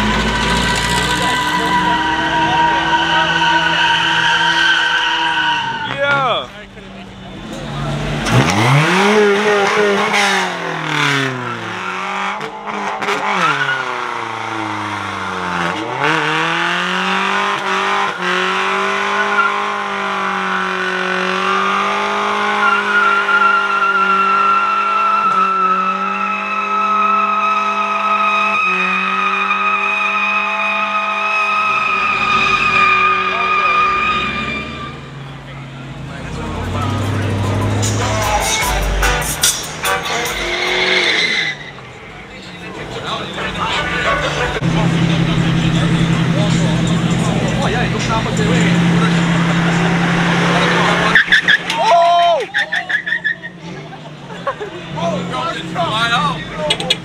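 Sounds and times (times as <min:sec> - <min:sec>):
engine revving: 0:00.0 - 0:51.8
tires squealing: 0:00.0 - 0:57.0.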